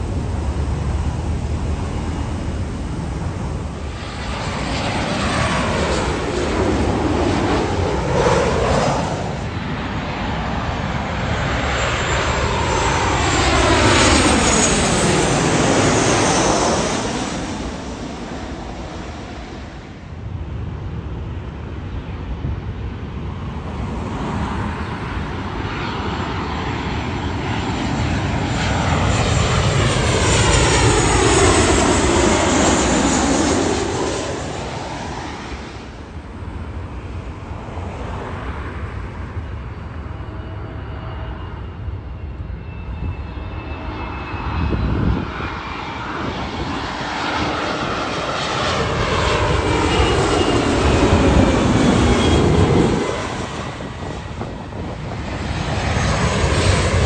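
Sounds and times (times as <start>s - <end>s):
airliners passing close: 0.0s - 57.0s.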